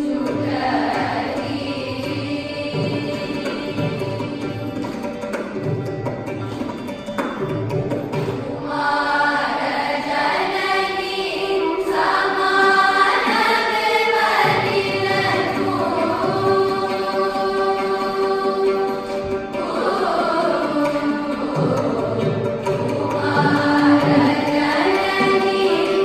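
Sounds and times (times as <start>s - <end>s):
children's choir singing: 0.0s - 5.7s, 8.2s - 26.0s.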